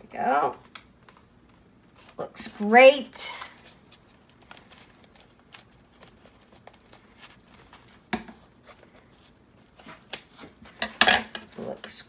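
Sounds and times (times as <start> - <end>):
paper rustling: 0.6 - 10.8.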